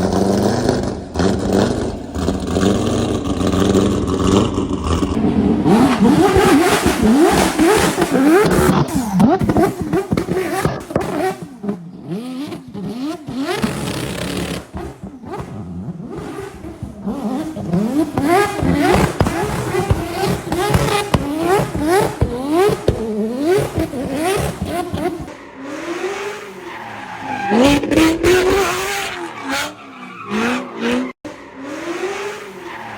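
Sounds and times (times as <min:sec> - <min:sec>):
vehicle engine revving: 0:00.0 - 0:32.9.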